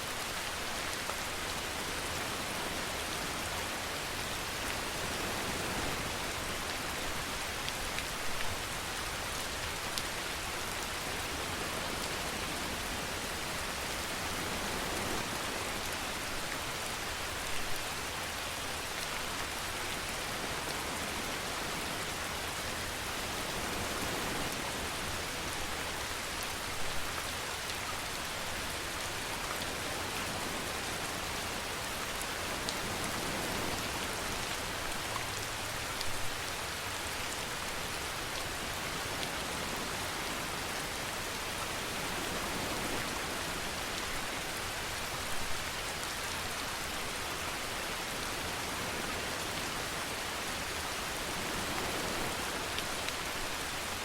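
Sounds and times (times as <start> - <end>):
steady rainfall hiss: 0.0 - 54.0.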